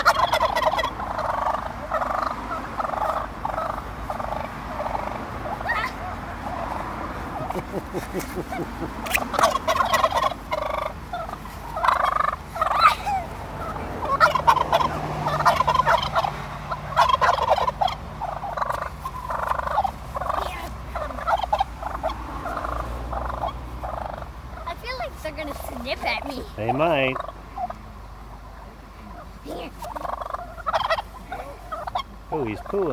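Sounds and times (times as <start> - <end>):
turkeys gobbling: 0.0 - 32.9.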